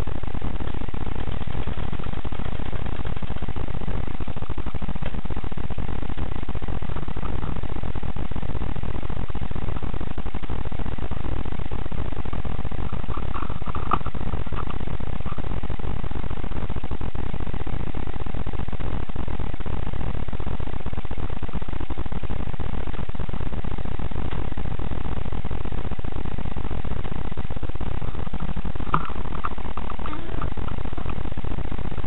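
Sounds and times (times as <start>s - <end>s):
steady low rumbling: 0.0s - 32.0s.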